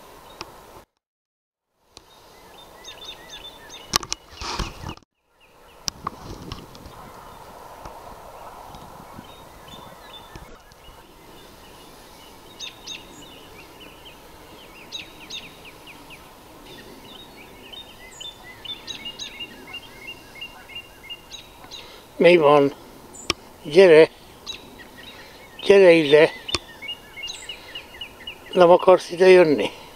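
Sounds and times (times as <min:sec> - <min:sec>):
outdoor background noise: 0:00.0 - 0:01.0, 0:01.6 - 0:29.9
small birds chirping: 0:01.9 - 0:29.9.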